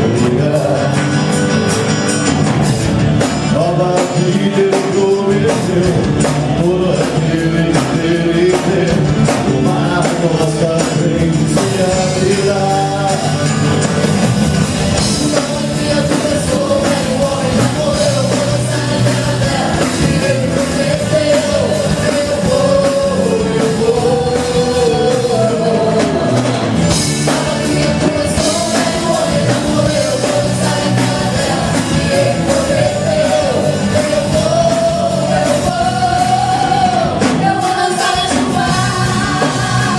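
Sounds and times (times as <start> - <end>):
person singing lead melody: 0.0 - 1.5, 3.5 - 14.0, 14.8 - 39.9
drums: 0.0 - 39.9
worship band playing: 0.0 - 39.9.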